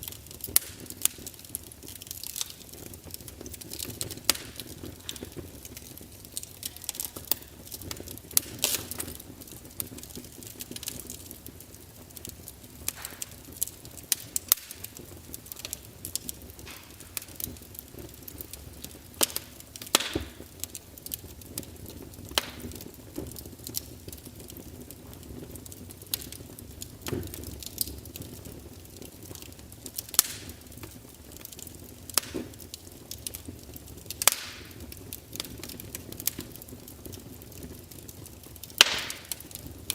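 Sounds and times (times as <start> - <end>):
sharp pops and snaps: 0.0 - 25.0, 25.6 - 39.9
fire crackling: 0.0 - 39.9.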